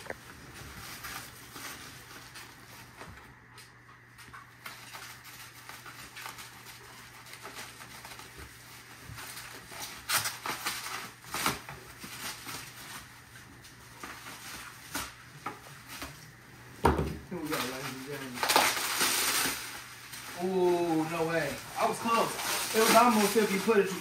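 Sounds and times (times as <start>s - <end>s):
packing paper rustling: 0.0s - 24.0s.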